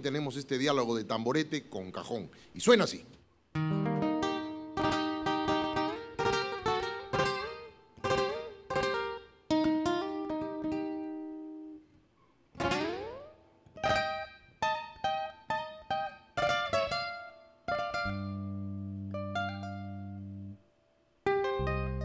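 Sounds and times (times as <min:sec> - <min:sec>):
acoustic guitar playing: 0:03.5 - 0:22.0.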